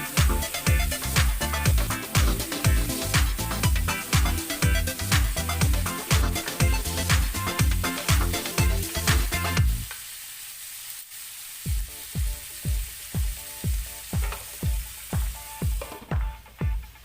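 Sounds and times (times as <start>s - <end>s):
electronic dance music: 0.0s - 9.9s, 11.7s - 17.0s
food sizzling in a pan: 0.0s - 17.0s.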